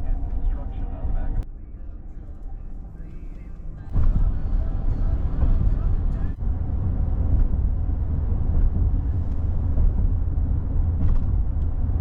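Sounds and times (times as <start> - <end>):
car road rumble from inside: 0.0 - 12.0.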